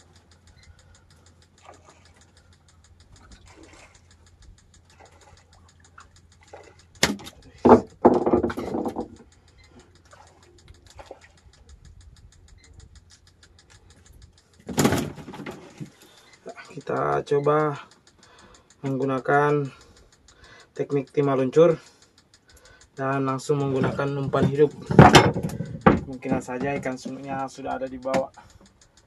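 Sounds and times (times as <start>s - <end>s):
low steady hum: 0.0s - 29.0s
sharp click: 0.0s - 29.0s.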